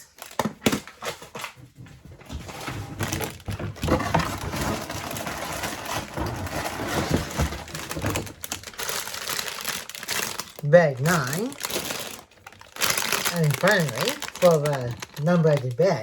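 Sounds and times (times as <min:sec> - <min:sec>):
plastic bags crinkling: 0:00.0 - 0:01.6, 0:02.3 - 0:16.0
loose plastic pieces shifting: 0:02.3 - 0:15.9.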